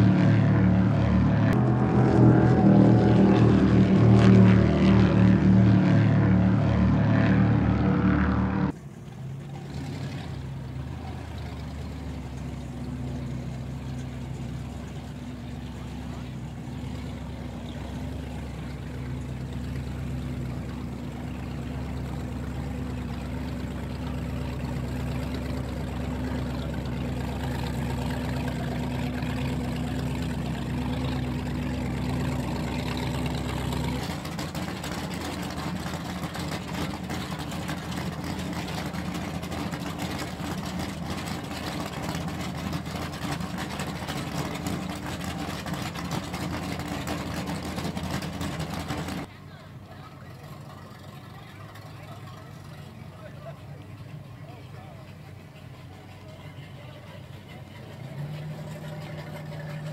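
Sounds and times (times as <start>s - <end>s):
powerboat engines low drone: 0.0s - 59.9s.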